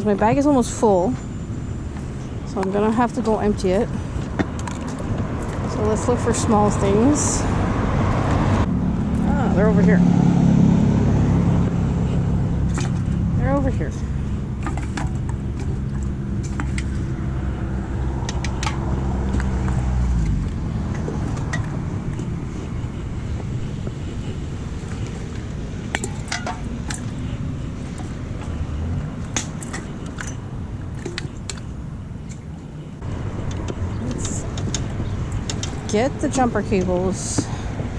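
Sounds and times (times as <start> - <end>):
vehicle engine humming: 0.0 - 37.9.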